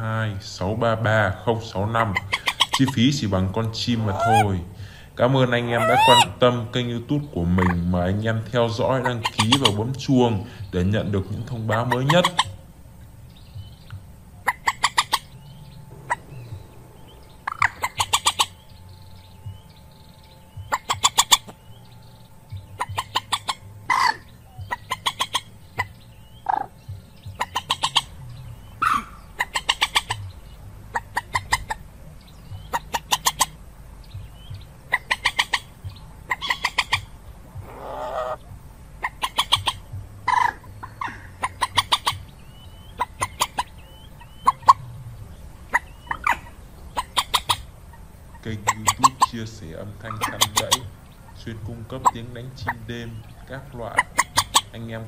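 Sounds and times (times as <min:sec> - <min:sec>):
faint low hum: 0:00.0 - 0:55.0
moorhen clucking calls: 0:00.0 - 0:55.0.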